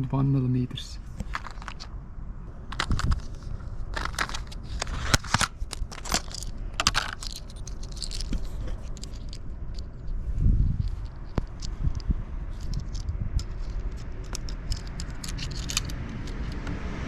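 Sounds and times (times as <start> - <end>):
small hard parts clicking and clinking: 1.1 - 2.0, 2.6 - 16.8.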